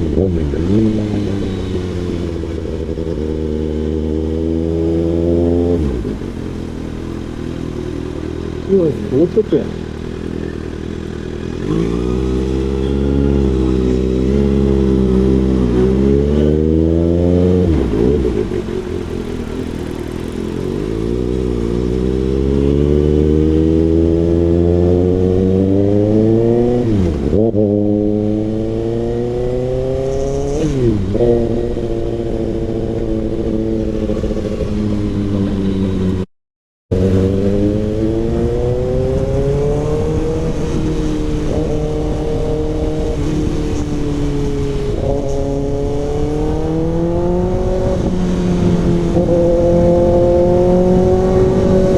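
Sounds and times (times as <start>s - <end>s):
motorcycle engine accelerating: 0.0s - 36.3s, 36.9s - 51.9s.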